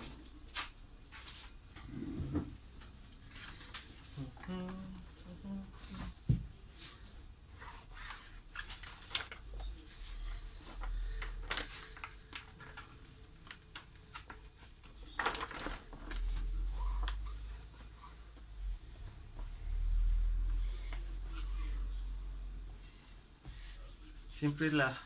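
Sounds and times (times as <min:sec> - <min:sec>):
vinyl film crackling and rustling: 0:02.6 - 0:22.7, 0:23.3 - 0:25.0.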